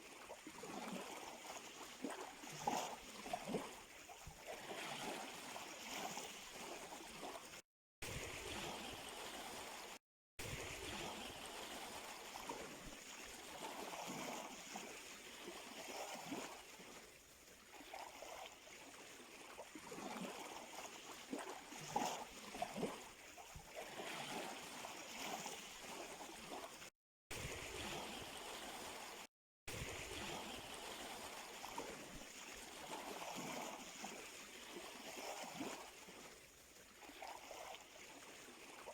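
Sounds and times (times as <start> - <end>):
small waves washing on shore: 0.0 - 38.9.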